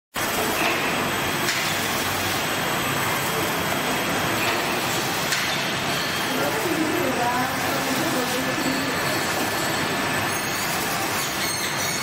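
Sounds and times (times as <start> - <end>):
packaging machinery running: 0.2 - 12.0.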